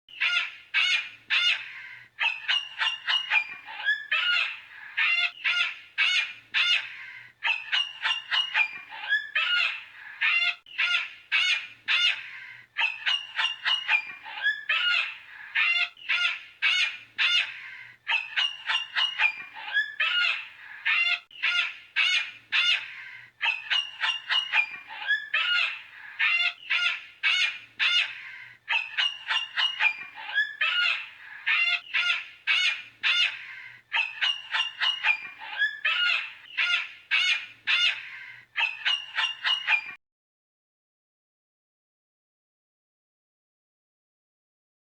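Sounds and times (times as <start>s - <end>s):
cockatoo squawking calls: 0.1s - 40.0s.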